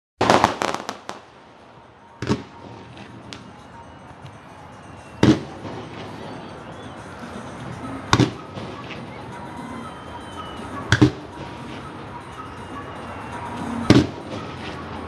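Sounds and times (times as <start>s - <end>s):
fireworks exploding: 0.2s - 12.6s, 13.3s - 15.0s.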